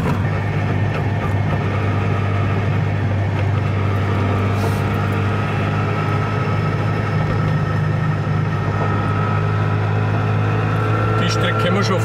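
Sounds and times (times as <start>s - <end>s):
two-stroke car engine running: 0.0s - 12.0s.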